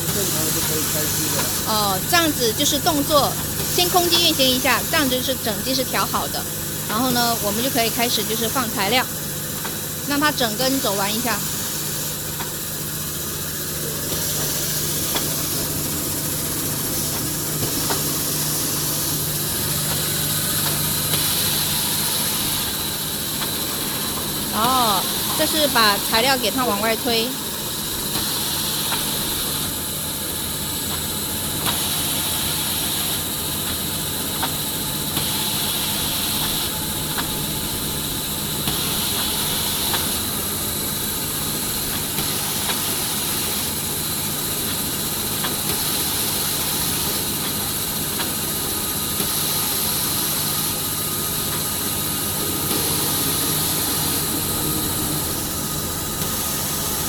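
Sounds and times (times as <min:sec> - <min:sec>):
machine hum and hiss: 0:00.0 - 0:57.0.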